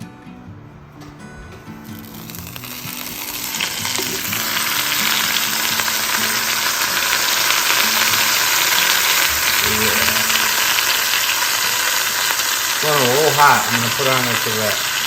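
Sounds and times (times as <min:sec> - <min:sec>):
chicken sizzling in hot oil: 0:02.0 - 0:15.0.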